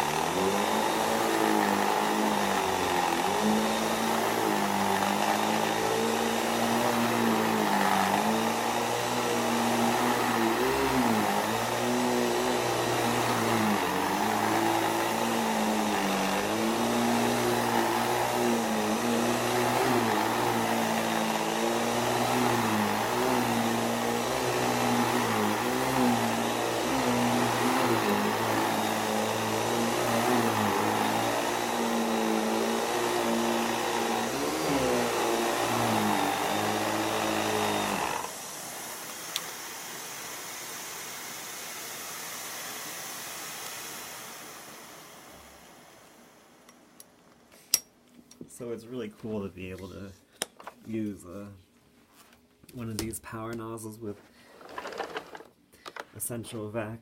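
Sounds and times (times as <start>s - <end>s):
vacuum motor drone: 0.0s - 46.8s.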